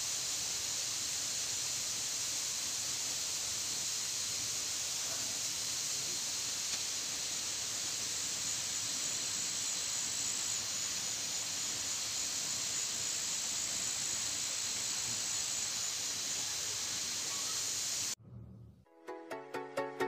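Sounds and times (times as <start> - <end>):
insects chorus: 0.0 - 18.2.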